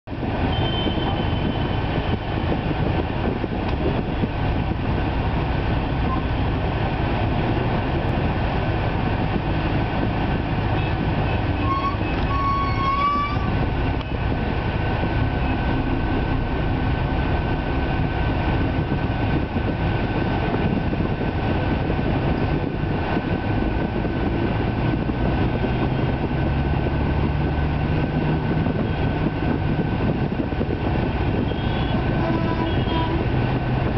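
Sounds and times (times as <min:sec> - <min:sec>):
bus engine and road rumble: 0:00.0 - 0:33.9.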